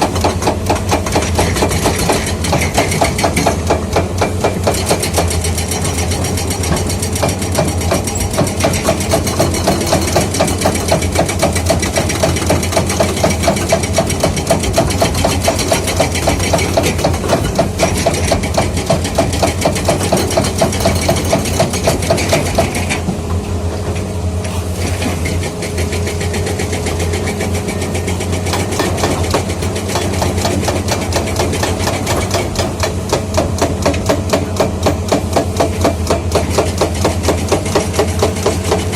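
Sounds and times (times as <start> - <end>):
hydraulic breaker hammering: 0.0 - 23.1, 25.0 - 38.9
diesel engine running: 0.0 - 38.9.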